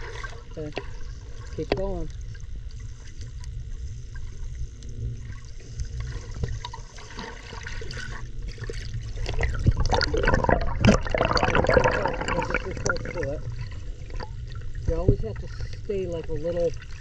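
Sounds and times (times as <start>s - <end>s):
swimmer splashing and bubbling: 0.0s - 4.5s, 5.2s - 17.0s
muffled underwater rumble: 0.0s - 17.0s.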